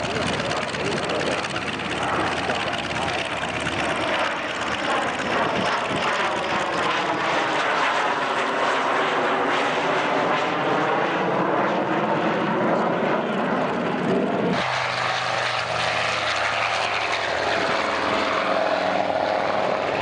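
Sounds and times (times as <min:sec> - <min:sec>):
jet aircraft passing overhead: 0:00.0 - 0:20.0.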